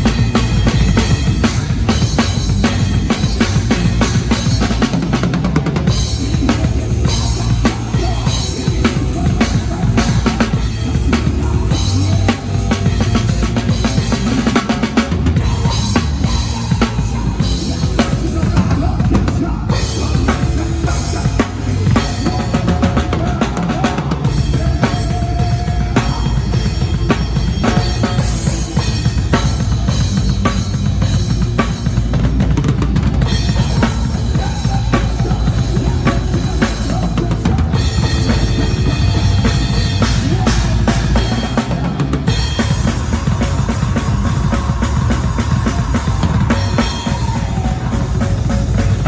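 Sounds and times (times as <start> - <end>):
bass and guitar playing: 0.0 - 49.0.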